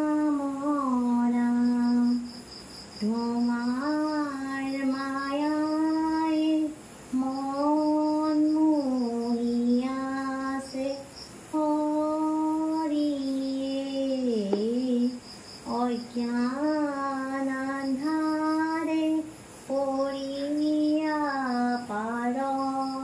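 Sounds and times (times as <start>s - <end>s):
person singing high unaccompanied: 0.0s - 2.3s, 3.0s - 23.0s.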